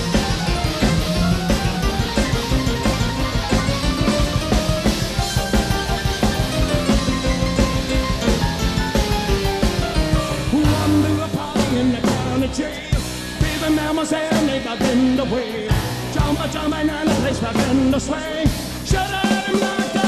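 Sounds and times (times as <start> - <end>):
drum kit beat: 0.0 - 20.0
rock band music: 0.0 - 20.0.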